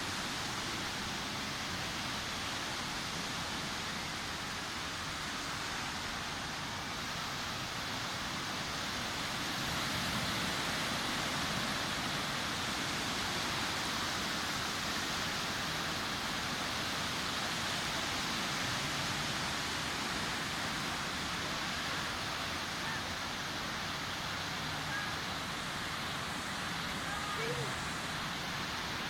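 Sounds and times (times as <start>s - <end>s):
surf washing onto beach: 0.0s - 29.0s.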